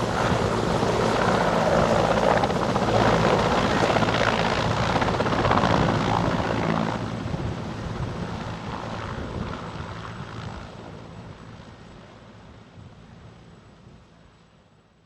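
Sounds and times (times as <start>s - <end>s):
helicopter flying past: 0.0s - 14.3s.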